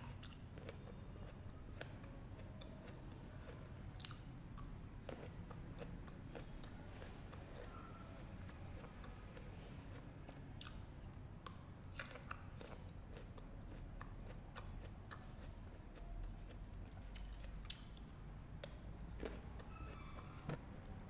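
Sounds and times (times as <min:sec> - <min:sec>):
fruit being bitten and chewed: 0:00.0 - 0:21.0.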